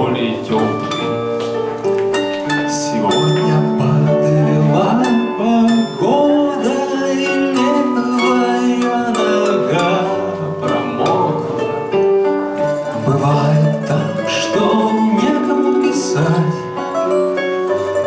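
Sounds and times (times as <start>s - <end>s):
electric keyboard: 0.0s - 18.0s
plucked string instrument: 0.0s - 18.0s.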